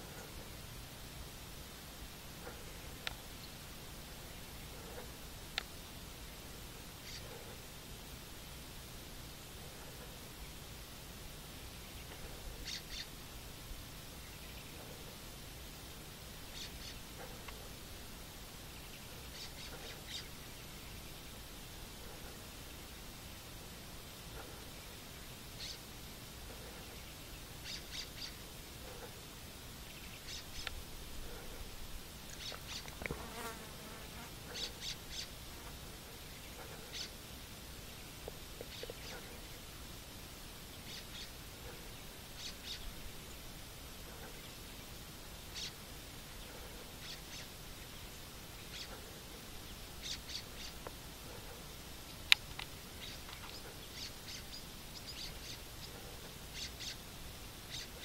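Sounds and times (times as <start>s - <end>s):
soft hiss: 0.0s - 58.0s.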